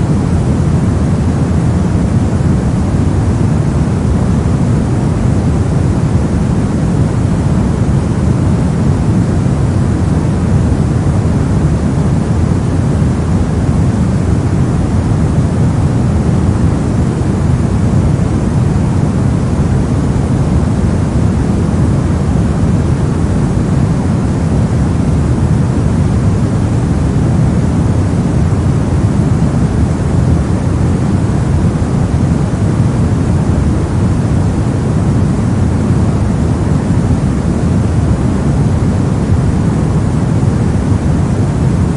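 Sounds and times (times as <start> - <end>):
steady low noise: 0.0 - 41.9.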